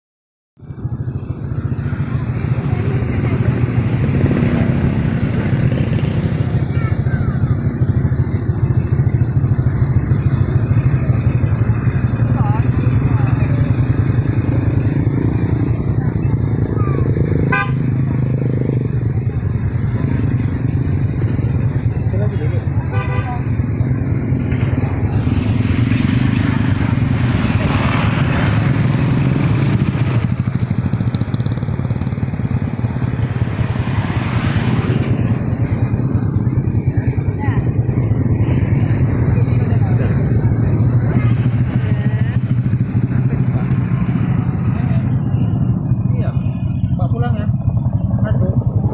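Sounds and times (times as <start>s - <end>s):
vehicle engine running: 0.7s - 48.9s.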